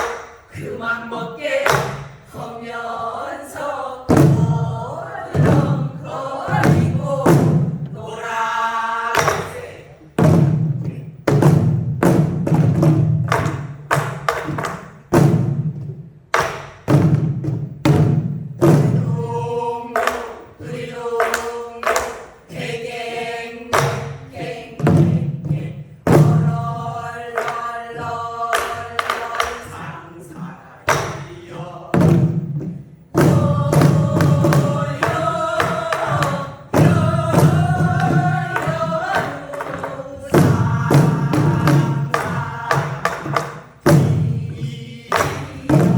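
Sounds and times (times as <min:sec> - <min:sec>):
group singing folk song: 0:00.0 - 0:12.6, 0:18.6 - 0:45.9
barrel drums beaten in rhythm: 0:00.0 - 0:45.9.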